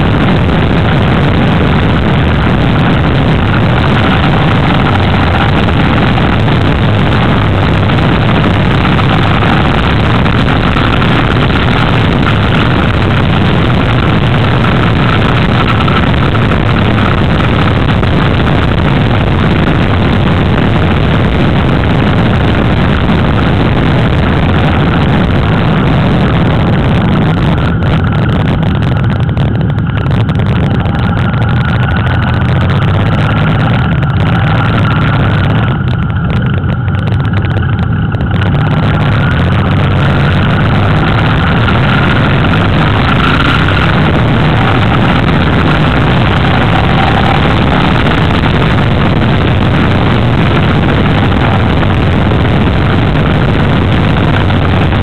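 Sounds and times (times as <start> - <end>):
motorcycle engine drone: 0.0 - 55.0
wind rush on microphone: 0.0 - 55.0.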